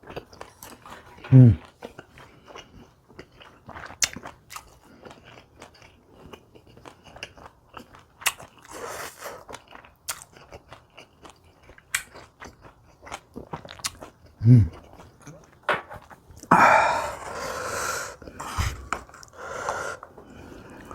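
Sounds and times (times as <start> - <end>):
chewing with crunchy bites: 0.0 - 16.5, 18.2 - 20.9.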